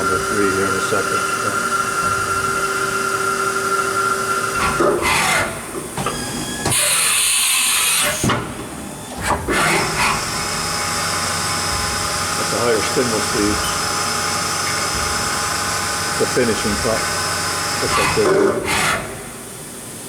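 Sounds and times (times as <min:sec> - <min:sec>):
machine spindle whining: 0:00.0 - 0:19.5.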